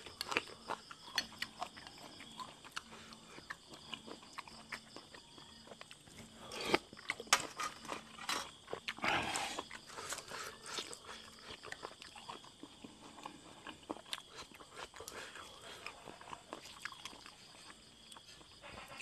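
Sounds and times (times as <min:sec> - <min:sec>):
man chewing with wet crunching: 0:00.0 - 0:19.0.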